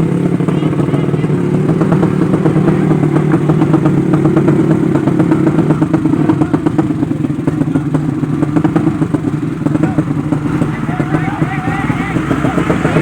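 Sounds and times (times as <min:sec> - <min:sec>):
fast uneven ticking: 0:00.0 - 0:13.0
motorcycle engine running: 0:00.0 - 0:13.0.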